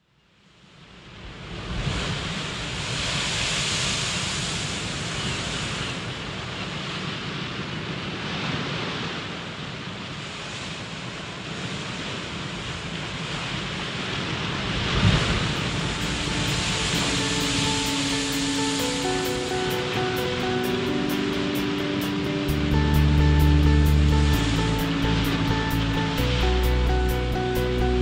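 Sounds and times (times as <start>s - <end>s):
waves breaking on shore: 0.8s - 28.0s.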